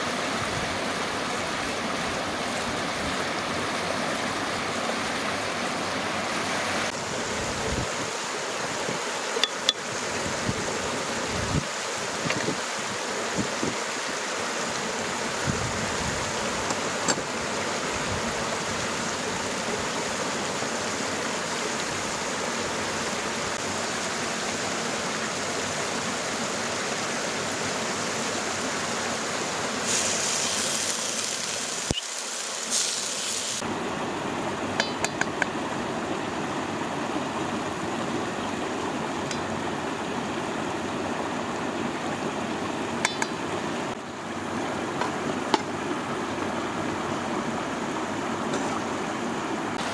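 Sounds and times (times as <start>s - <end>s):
mountain stream running: 0.0s - 49.9s.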